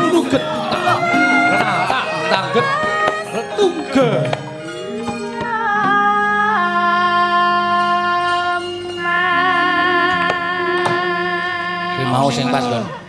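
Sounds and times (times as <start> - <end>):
gamelan music: 0.0 - 12.4.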